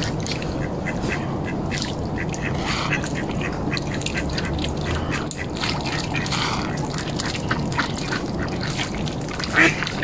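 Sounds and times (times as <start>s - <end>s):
ducks quacking: 0.5s - 10.0s.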